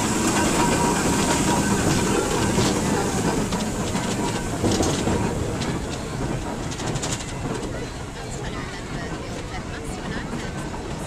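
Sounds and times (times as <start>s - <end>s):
steam engines rumbling: 0.0s - 11.0s.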